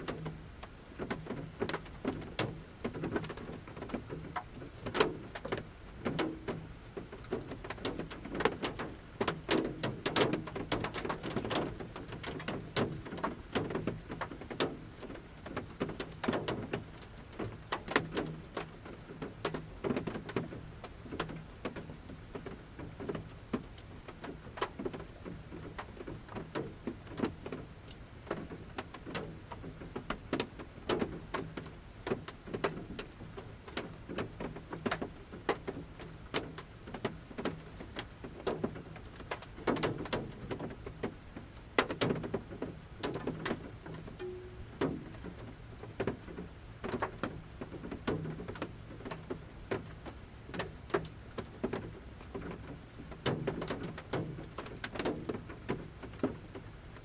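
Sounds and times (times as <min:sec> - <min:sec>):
raindrops tapping on van roof: 0:00.0 - 0:57.0.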